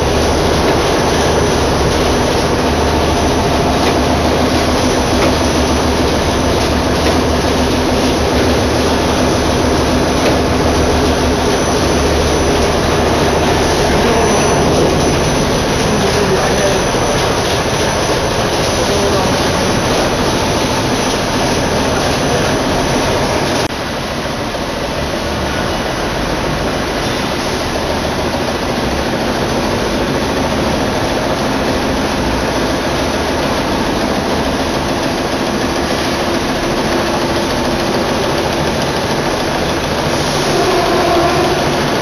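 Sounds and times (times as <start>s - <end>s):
production line machinery running: 0.0s - 42.0s.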